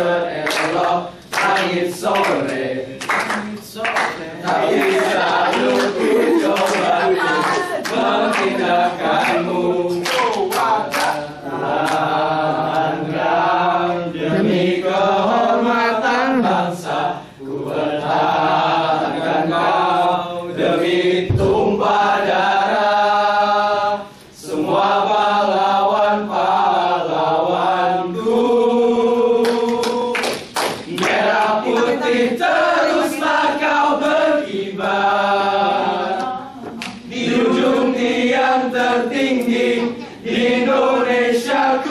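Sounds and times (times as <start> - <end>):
men singing a cappella: 0.0 - 41.9.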